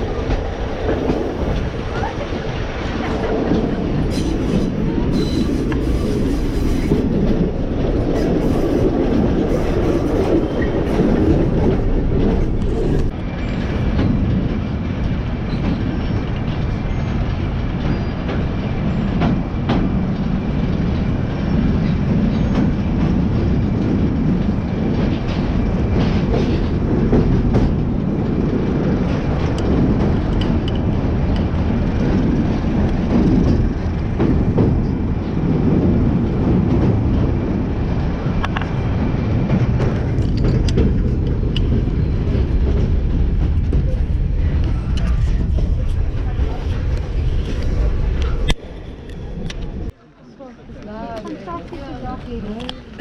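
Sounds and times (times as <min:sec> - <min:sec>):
wheels clicking on rails: 0:00.0 - 0:50.0
train carriages rumbling: 0:00.0 - 0:53.0.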